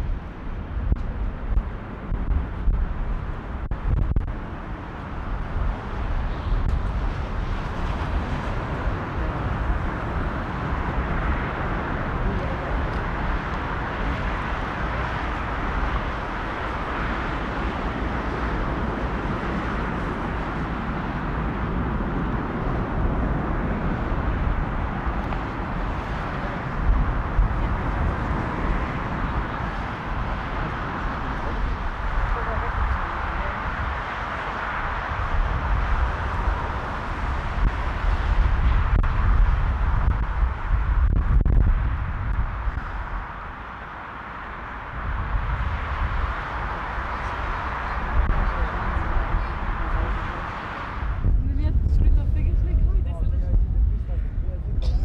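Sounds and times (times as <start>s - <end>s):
jet engines roaring: 0.0s - 55.0s
wind buffeting microphone: 0.0s - 55.0s.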